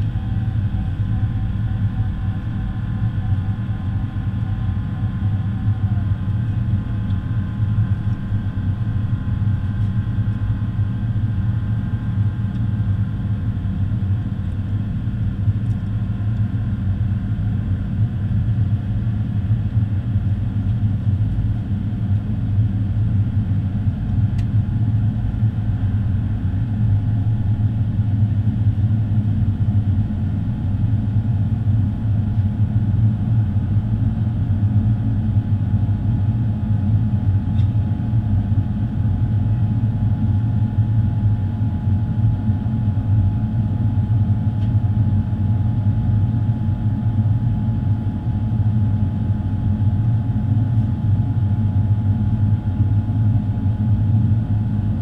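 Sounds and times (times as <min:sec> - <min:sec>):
faint engine whine: 0:00.0 - 0:55.0
jet engine rumble in cabin: 0:00.0 - 0:55.0.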